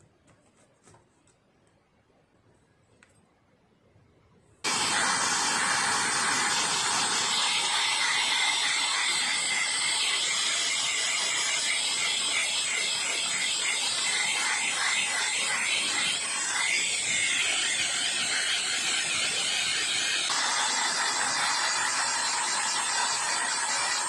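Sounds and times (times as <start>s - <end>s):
compressed air hissing: 4.6s - 24.0s.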